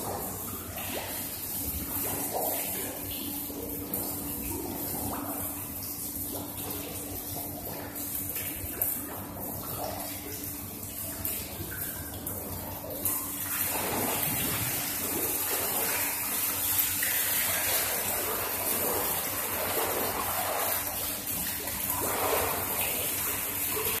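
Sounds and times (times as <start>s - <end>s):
spout pouring water into pool: 0.0s - 24.0s.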